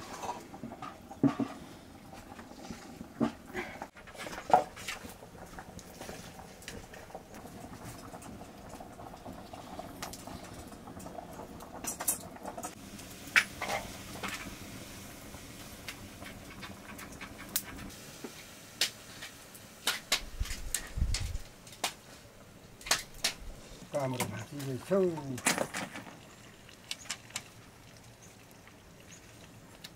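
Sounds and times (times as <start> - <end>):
firewood crackling: 0.0 - 29.9
water boiling in metal pot: 0.0 - 29.9.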